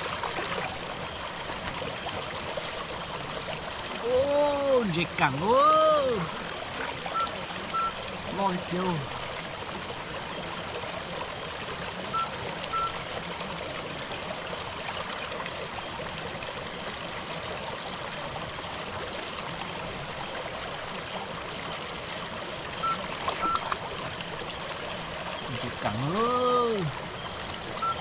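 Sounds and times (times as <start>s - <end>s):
stream rushing: 0.0s - 28.0s.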